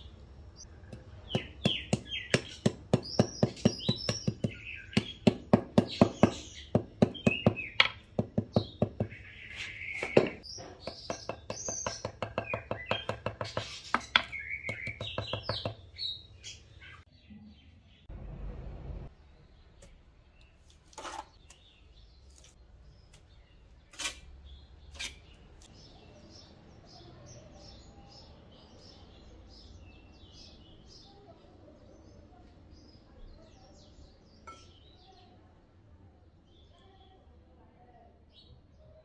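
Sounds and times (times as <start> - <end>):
small birds chirping: 0.0 - 18.1, 19.1 - 39.0.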